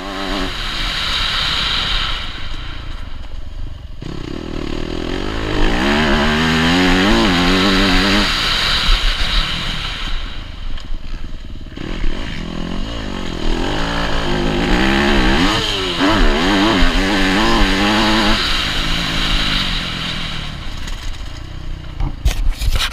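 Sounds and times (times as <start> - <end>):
motocross bike engine revving: 0.0 - 3.2, 3.8 - 22.2
wind and track noise: 0.0 - 22.9.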